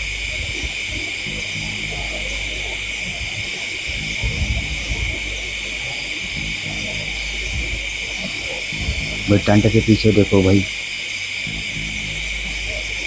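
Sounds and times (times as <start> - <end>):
crickets chirping: 0.0 - 13.0
low droning background music: 0.0 - 13.0.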